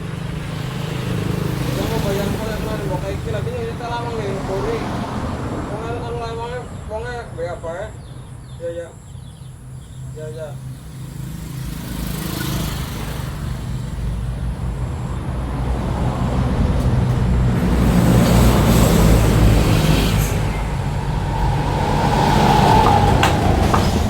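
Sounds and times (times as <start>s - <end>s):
low engine rumble: 0.0s - 11.8s, 13.0s - 24.0s.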